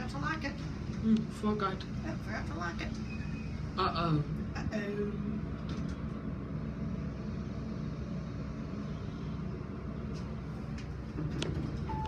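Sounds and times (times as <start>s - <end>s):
elevator hum and rumble: 0.0s - 12.0s.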